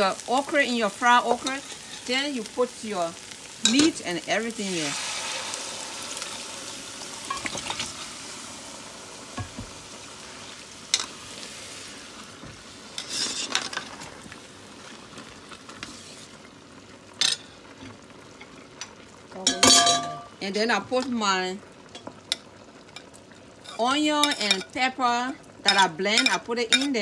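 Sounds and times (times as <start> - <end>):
hot oil sizzling in a pot: 0.0 - 27.0.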